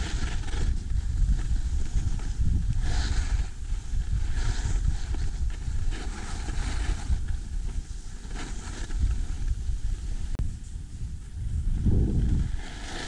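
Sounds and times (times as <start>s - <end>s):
skis scraping over packed snow: 0.0s - 11.4s, 12.2s - 13.0s
wind buffeting microphone: 0.0s - 13.0s.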